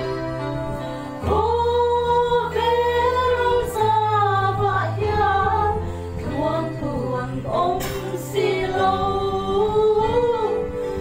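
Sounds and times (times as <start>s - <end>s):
instrumental accompaniment chords: 0.0s - 11.0s
women singing together: 0.0s - 11.0s.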